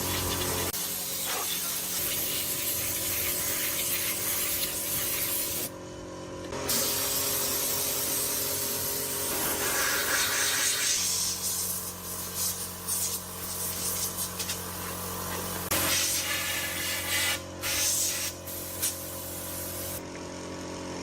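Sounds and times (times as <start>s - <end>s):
compressed air spray hissing: 0.0s - 5.7s, 6.7s - 20.0s.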